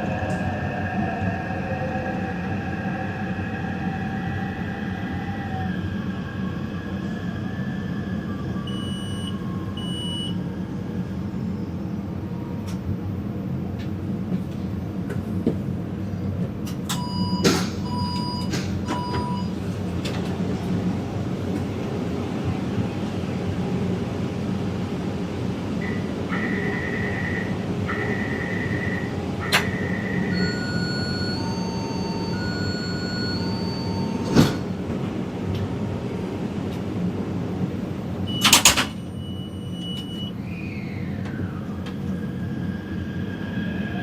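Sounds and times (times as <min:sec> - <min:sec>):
train rumble and motor whine: 0:00.0 - 0:44.0.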